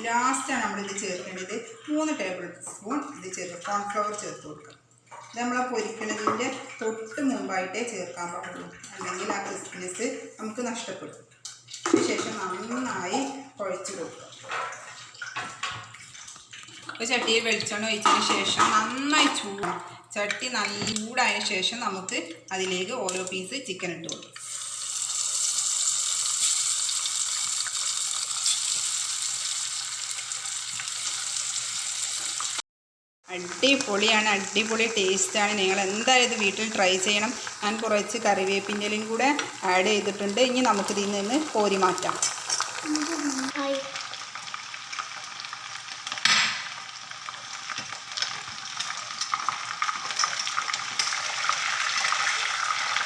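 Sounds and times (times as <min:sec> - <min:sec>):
chicken deep-frying in oil: 0:05.3 - 0:32.6, 0:33.2 - 0:53.0.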